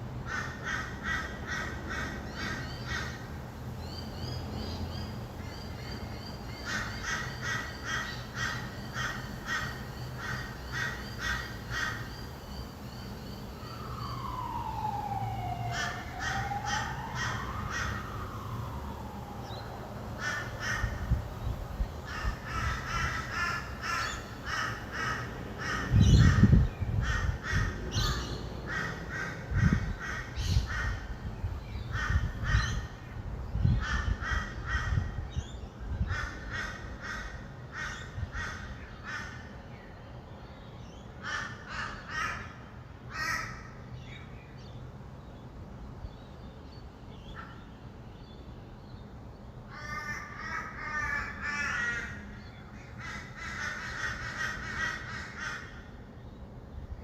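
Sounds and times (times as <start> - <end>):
low traffic rumble: 0.0 - 57.0
lorikeets screeching: 0.3 - 44.8, 49.7 - 56.5.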